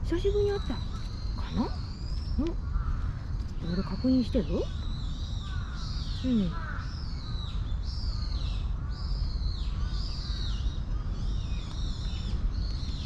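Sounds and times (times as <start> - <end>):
high falling bird calls: 0.0 - 13.0
steady low rumble: 0.0 - 13.0.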